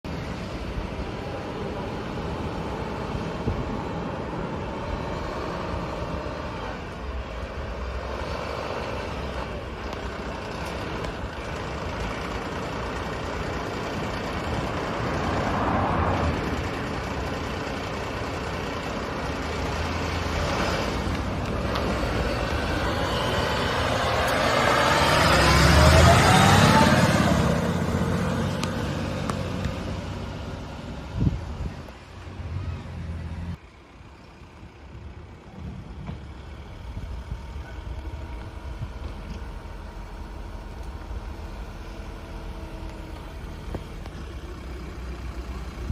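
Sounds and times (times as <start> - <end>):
vehicle engines running: 0.0 - 45.9
heavy vehicle driving past: 0.1 - 45.9.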